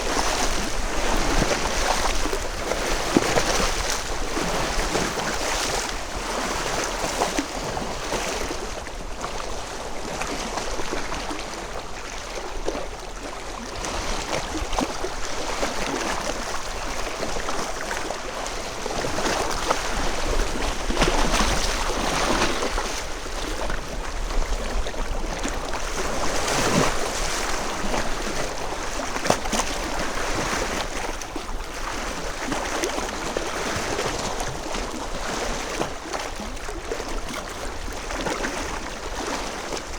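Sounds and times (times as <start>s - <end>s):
waves lapping against stones: 0.0s - 12.0s, 12.6s - 39.9s.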